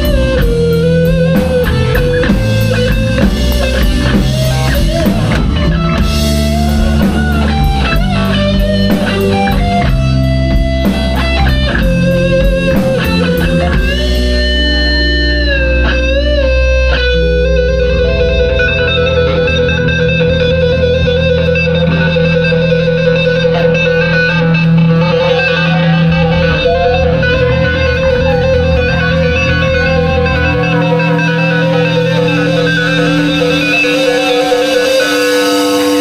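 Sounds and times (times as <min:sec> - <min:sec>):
bass notes: 0:00.0 - 0:36.0
bending guitar line: 0:00.0 - 0:36.0
electric guitar note with vibrato: 0:00.0 - 0:36.0.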